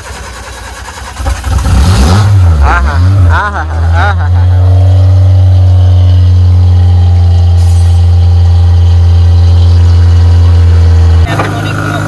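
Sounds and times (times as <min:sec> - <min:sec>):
car engine idling: 0:00.0 - 0:02.7, 0:03.5 - 0:12.0.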